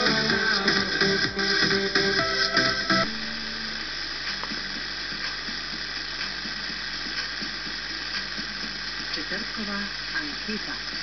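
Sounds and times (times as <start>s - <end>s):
music on car radio: 0.0s - 11.0s
radio static hiss: 0.0s - 11.0s.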